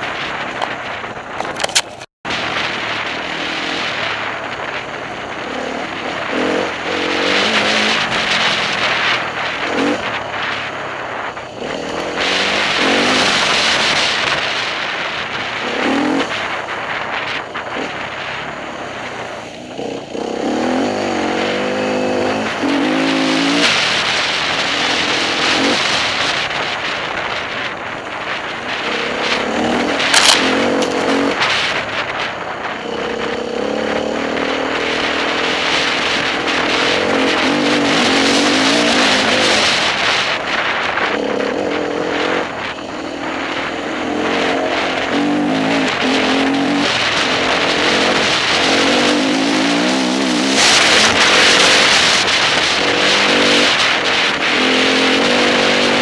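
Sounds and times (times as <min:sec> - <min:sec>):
motorcycle engine revving: 0:00.0 - 0:56.0
trail and wind noise: 0:00.0 - 0:56.0.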